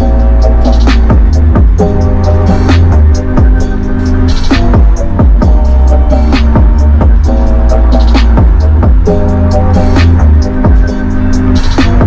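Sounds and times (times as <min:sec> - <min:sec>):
bass-heavy electronic music: 0:00.0 - 0:12.0.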